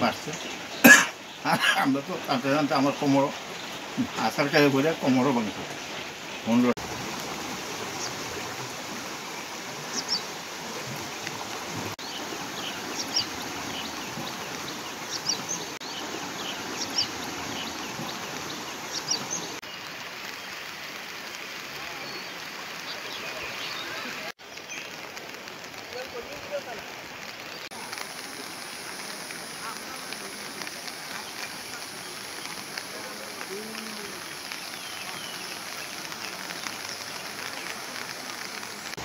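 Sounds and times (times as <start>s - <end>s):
floodwater rushing: 0.0s - 39.0s.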